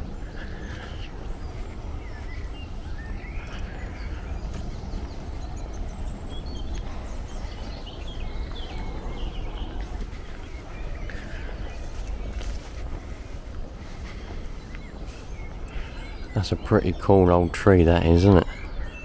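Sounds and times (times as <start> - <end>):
small birds chirping: 0.0 - 19.0
wind rumble on microphone: 0.0 - 19.0.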